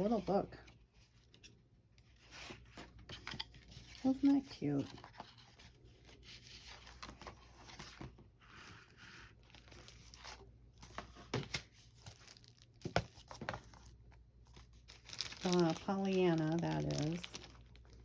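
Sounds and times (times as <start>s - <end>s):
paper rustling and crinkling: 0.0s - 18.0s.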